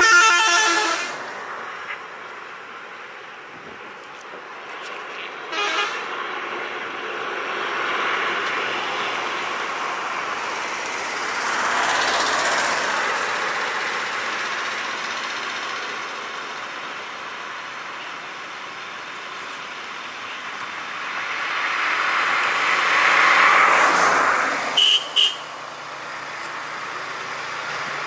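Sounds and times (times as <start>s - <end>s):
traffic driving past: 0.0s - 28.0s.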